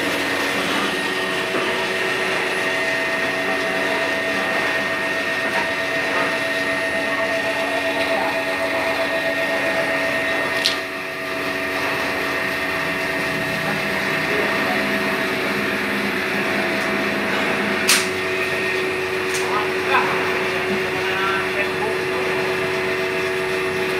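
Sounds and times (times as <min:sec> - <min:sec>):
machine whine and hum: 0:00.0 - 0:23.9.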